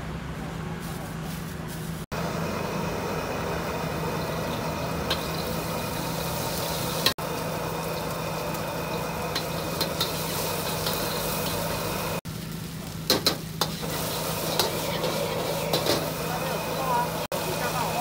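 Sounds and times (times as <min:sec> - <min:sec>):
gas burner roaring: 0:00.0 - 0:18.0.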